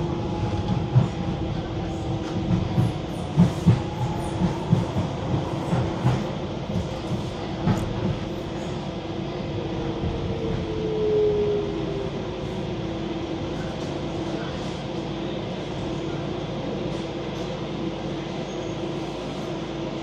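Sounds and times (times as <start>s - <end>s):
train rumble and hum: 0.0s - 20.0s.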